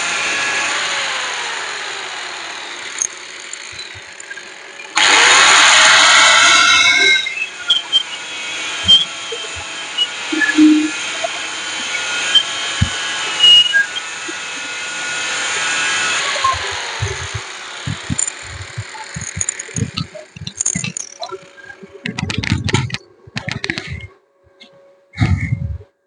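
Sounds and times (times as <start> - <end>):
electric power tool running: 0.0 - 24.1.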